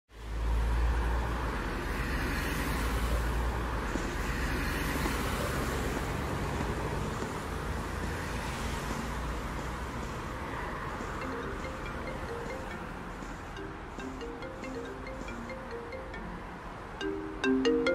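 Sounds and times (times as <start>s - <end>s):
passing cars rumbling: 0.2s - 17.9s.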